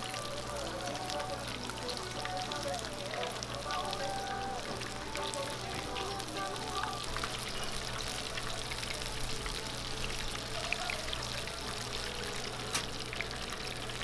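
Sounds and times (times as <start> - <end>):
squid deep-frying in oil: 0.0 - 14.0.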